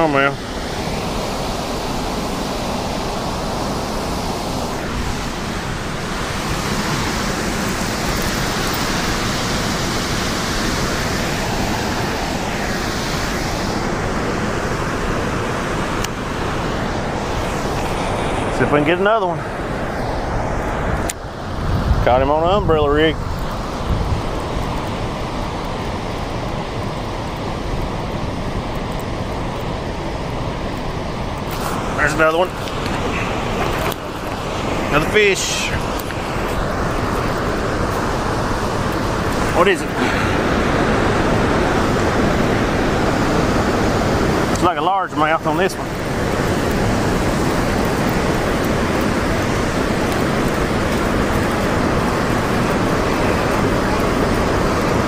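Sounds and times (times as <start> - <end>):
turbulent water churning: 0.0 - 55.0
whitewater rushing below dam: 0.0 - 55.0.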